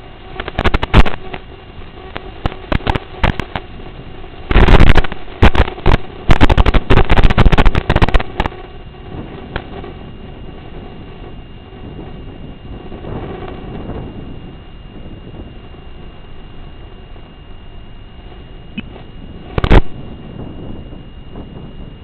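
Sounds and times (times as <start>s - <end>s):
distorted crackling clicks: 0.0s - 22.0s.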